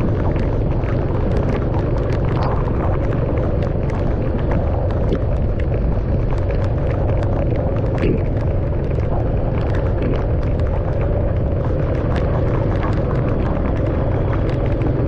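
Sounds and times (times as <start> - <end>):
raindrops ticking on car: 0.0 - 15.0
road and engine rumble: 0.0 - 15.0.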